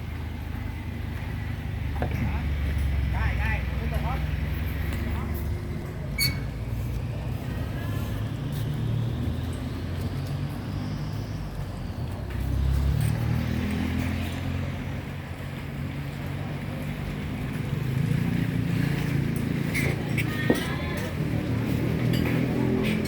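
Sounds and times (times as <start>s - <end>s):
low rumble of motor vehicles: 0.0s - 23.0s.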